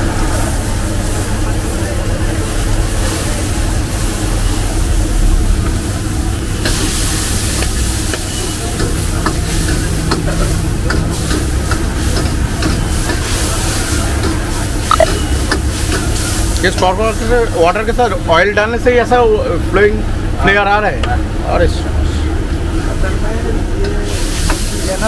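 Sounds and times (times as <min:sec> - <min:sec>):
chicken sizzling in a wok: 0:00.0 - 0:14.8, 0:15.4 - 0:18.4, 0:22.3 - 0:25.0.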